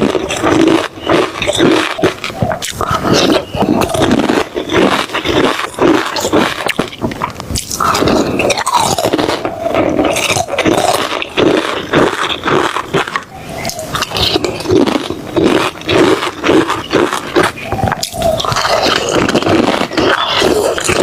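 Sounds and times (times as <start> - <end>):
person chewing: 0.0 - 21.0
wet mouth clicks: 0.0 - 21.0.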